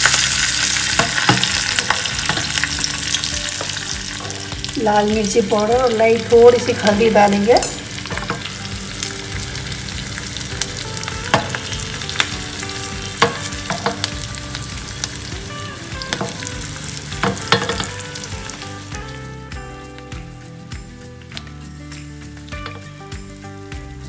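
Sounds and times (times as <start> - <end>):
ghee sizzling in a pan: 0.0 - 24.0
oil popping and crackling: 0.0 - 24.0.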